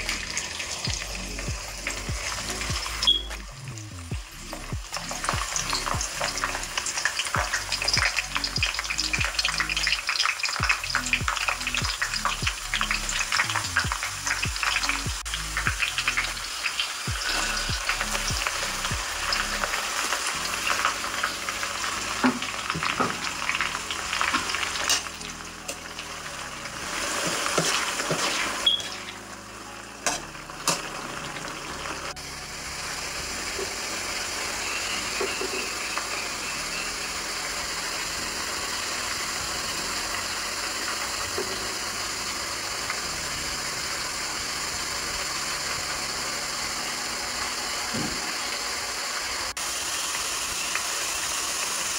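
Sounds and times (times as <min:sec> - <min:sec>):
food sizzling in oil: 0:00.0 - 0:51.9.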